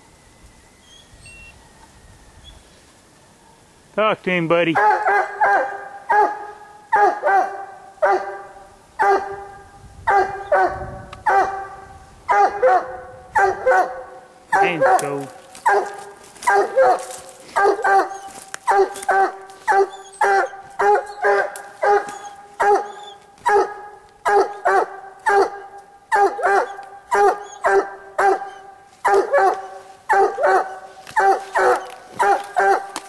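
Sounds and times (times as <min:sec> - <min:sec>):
dog barking: 0:04.8 - 0:33.0.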